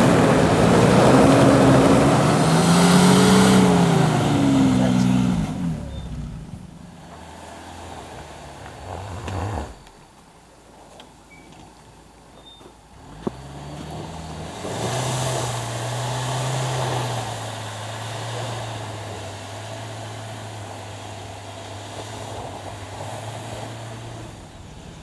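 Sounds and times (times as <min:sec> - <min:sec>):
off-road engine revving: 0:00.0 - 0:10.4, 0:12.9 - 0:25.0.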